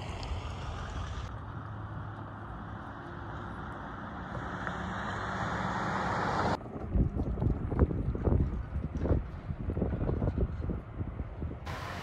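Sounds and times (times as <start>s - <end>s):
passing vehicle tyre and engine noise: 0.0s - 12.0s.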